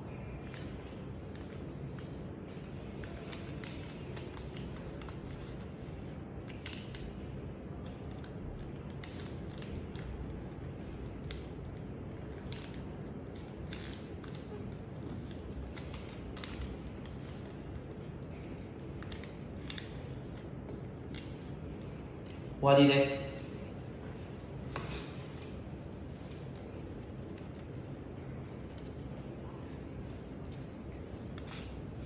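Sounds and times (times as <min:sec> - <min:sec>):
low background noise: 0:00.0 - 0:32.0.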